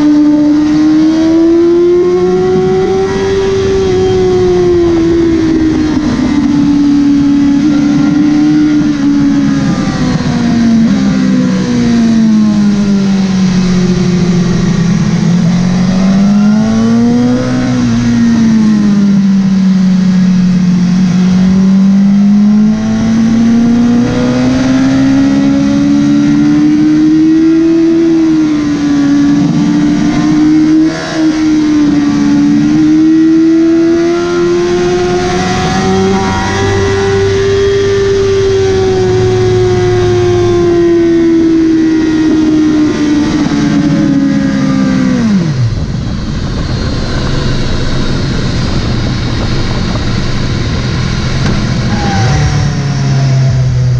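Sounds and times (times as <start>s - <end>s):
motorcycle engine accelerating and braking: 0.0s - 53.9s.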